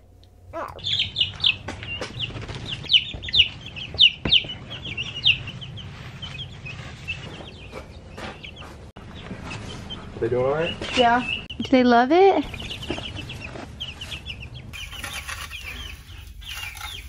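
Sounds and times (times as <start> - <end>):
chicks peeping: 0.6 - 17.0.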